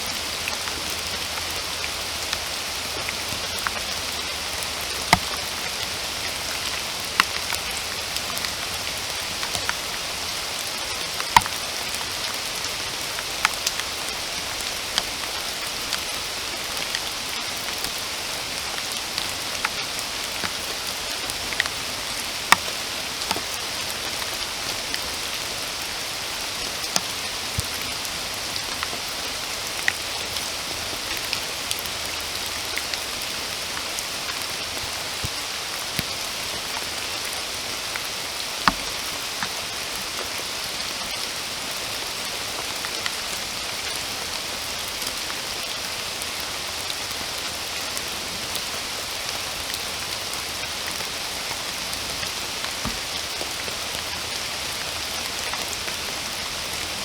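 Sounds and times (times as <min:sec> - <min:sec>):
rain falling in forest: 0:00.0 - 0:57.0
raindrops hitting close by: 0:00.0 - 0:57.0.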